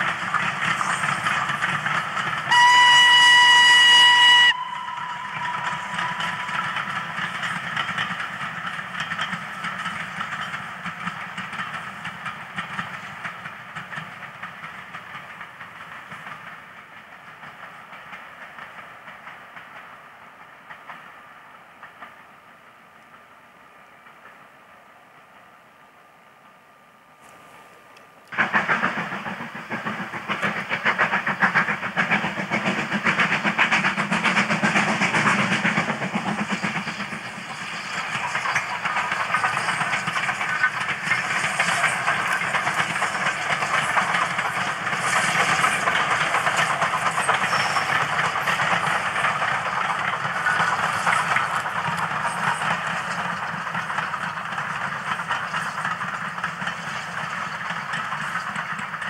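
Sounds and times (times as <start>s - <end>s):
steam locomotive passing: 0.0s - 59.0s.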